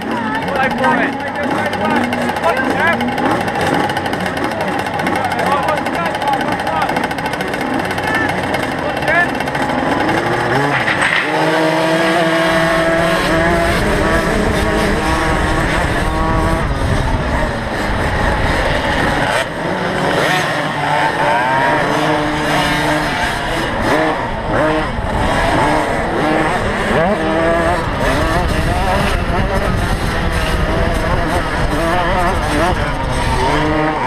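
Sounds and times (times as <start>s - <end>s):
motocross bikes revving: 0.0s - 34.0s.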